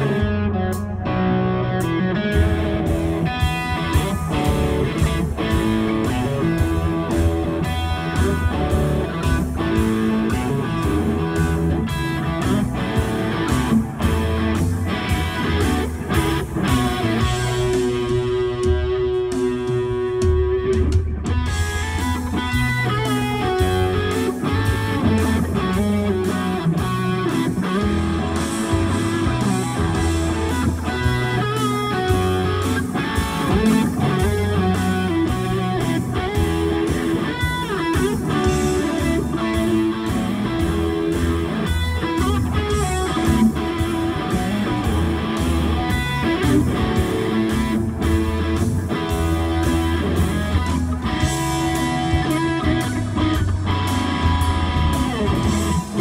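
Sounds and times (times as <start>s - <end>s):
bass line: 0.0s - 56.0s
electric guitar lead melody: 0.0s - 56.0s
drum beat: 2.3s - 56.0s.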